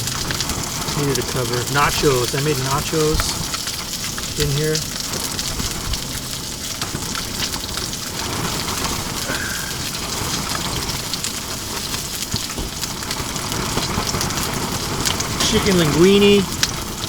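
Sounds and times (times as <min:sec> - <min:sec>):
food frying in a pan: 0:00.0 - 0:17.0
wind buffeting tent and microphone: 0:00.0 - 0:17.0.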